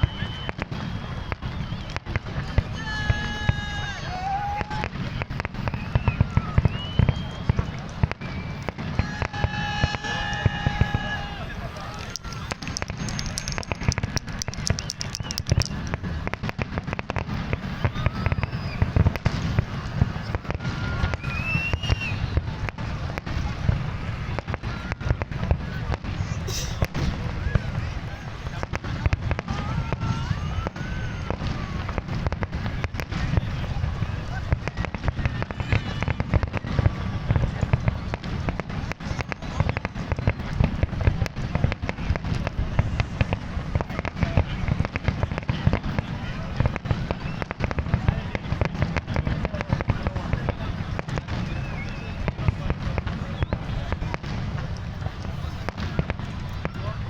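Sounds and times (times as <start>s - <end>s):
firework whistles: 0.0s - 49.9s, 51.0s - 57.0s
continuous low rumble: 0.0s - 57.0s
fireworks bangs and crackles: 0.0s - 57.0s.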